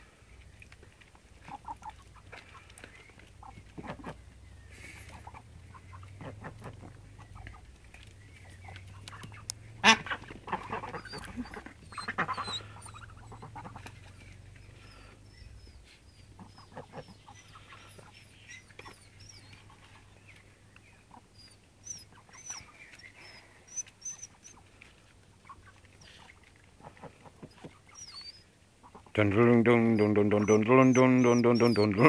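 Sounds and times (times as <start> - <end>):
ducks calling: 1.4 - 32.0.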